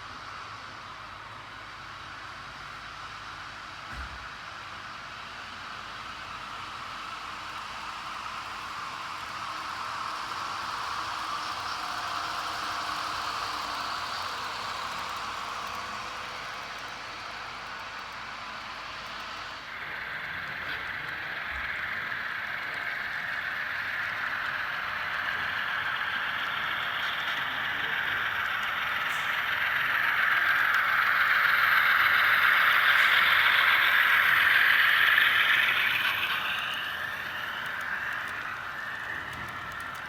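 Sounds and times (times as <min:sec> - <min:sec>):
model train rattling hiss: 0:04.6 - 0:40.0.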